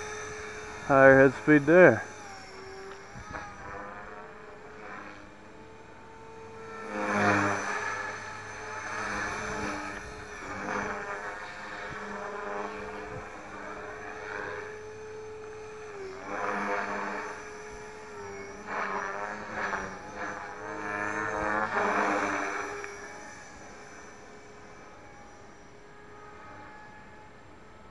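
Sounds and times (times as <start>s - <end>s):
rotor blade noise: 0.0s - 27.4s
rc helicopter motor whine: 0.0s - 27.9s.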